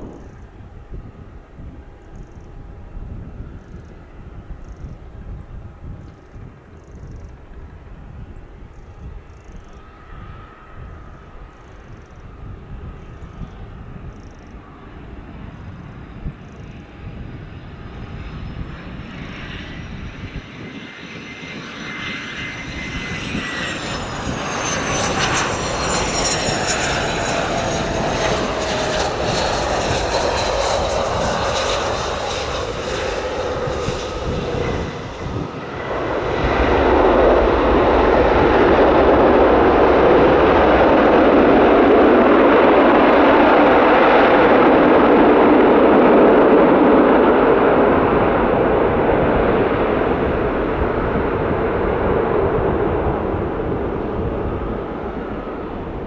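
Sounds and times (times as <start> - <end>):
jet engine whine: 0.0 - 56.0
jet thrust reverser roar: 0.0 - 56.0.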